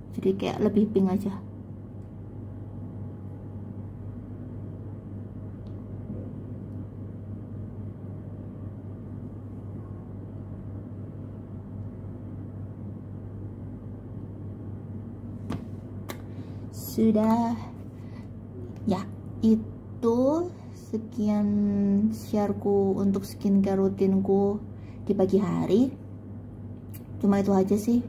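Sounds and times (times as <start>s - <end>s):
low hum with soft hiss: 0.0s - 28.0s.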